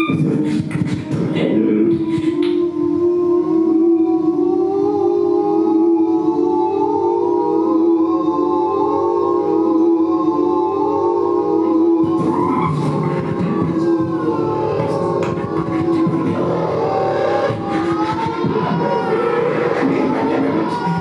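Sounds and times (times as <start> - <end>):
wavering pitched drone: 0.0 - 21.0.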